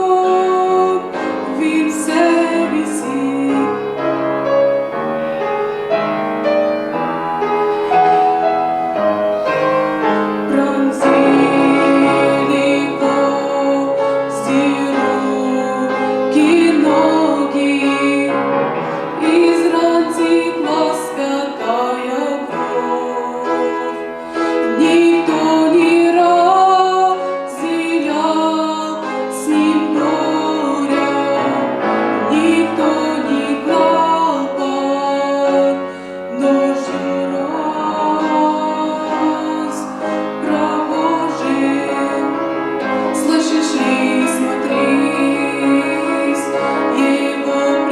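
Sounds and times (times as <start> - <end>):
woman singing a church song: 0.0 - 4.5, 7.8 - 47.9
keyboard accompaniment: 0.0 - 47.9.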